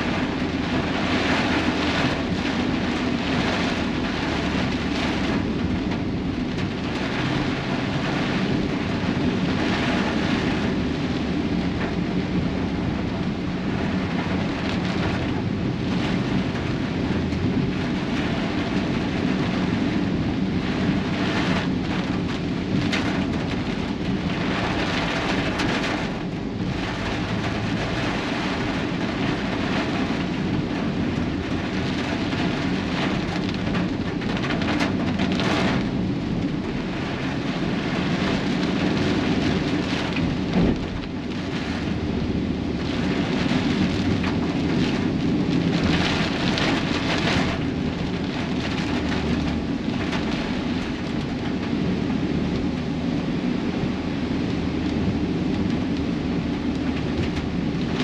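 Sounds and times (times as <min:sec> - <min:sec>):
rain with wind: 0:00.0 - 0:58.0
vehicle road rumble: 0:00.0 - 0:58.0.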